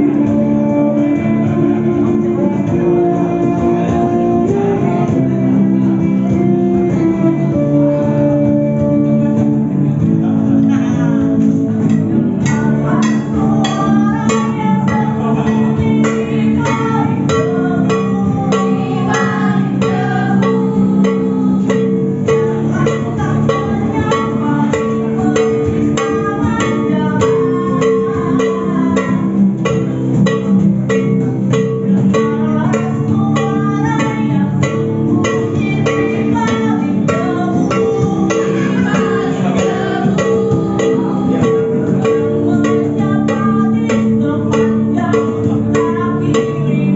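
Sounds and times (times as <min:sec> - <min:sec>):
plucked string music: 0:00.0 - 0:46.9.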